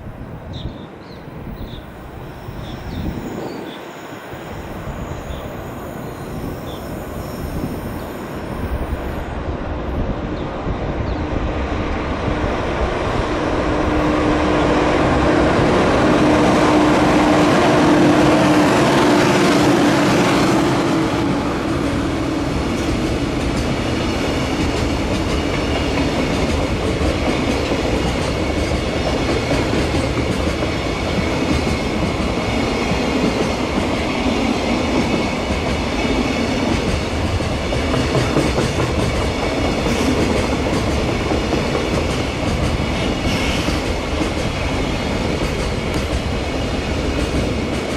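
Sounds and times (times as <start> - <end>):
electric locomotive whine passing: 0.0 - 47.9.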